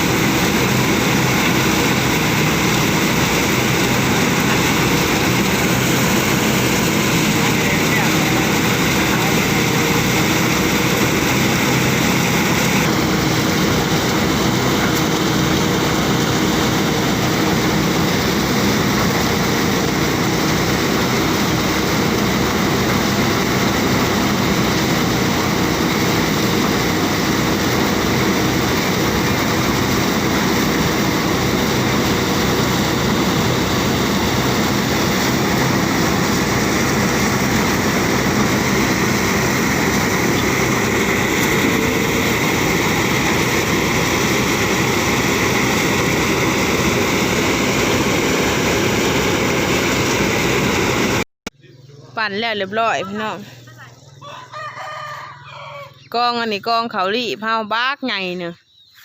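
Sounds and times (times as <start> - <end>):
threshing machine engine drone: 0.0 - 54.1.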